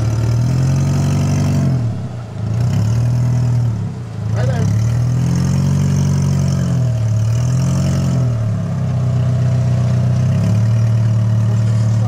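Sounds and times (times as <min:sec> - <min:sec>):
buggy engine revving under load: 0:00.0 - 0:12.0.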